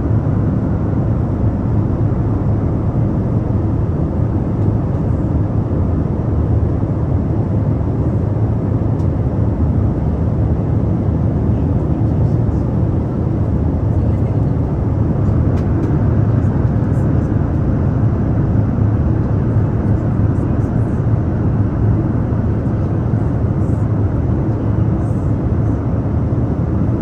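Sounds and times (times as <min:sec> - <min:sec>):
airliner cabin engine drone: 0:00.0 - 0:27.0.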